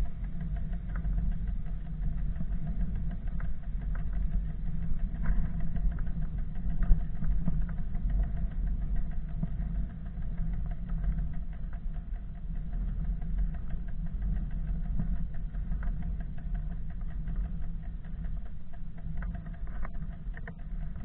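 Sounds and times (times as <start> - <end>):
light rattles and clicks: 0.0 - 21.0.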